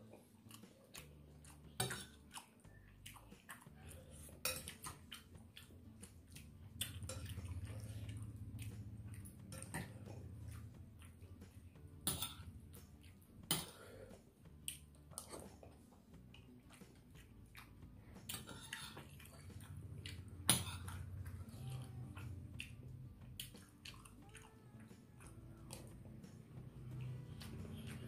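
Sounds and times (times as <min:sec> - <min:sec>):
chewing food: 0:00.0 - 0:28.0.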